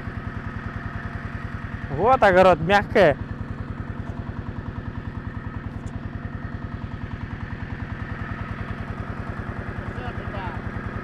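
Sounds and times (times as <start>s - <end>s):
mini-tractor engine running: 0.0s - 11.0s.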